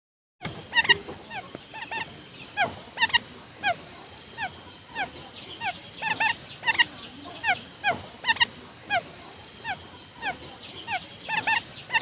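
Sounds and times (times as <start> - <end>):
quail calling: 0.4 - 12.0.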